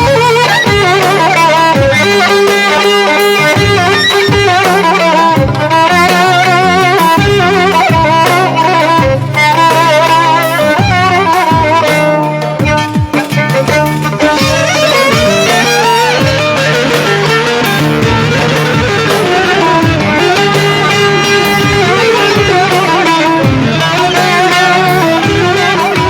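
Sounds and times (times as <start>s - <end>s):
plucked strings: 0.0s - 26.0s
violin melody: 0.0s - 26.0s.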